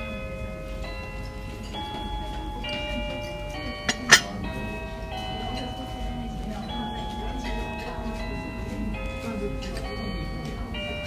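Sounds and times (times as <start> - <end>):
bell-like background music: 0.0 - 11.0.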